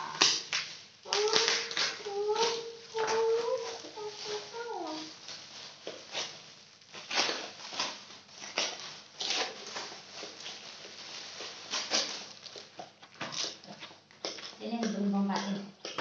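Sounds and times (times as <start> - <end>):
plastic packaging crinkling: 0.0 - 15.3.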